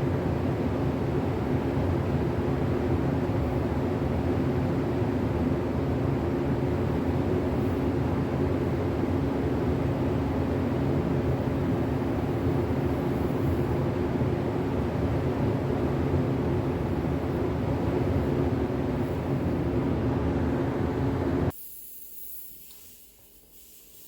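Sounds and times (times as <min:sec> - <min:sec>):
ventilation fan humming: 0:00.0 - 0:22.2.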